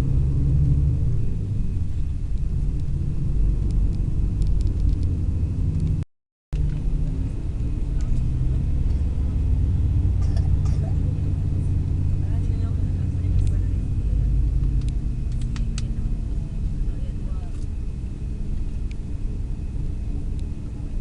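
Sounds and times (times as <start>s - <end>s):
coach engine and road noise: 0.0s - 21.0s.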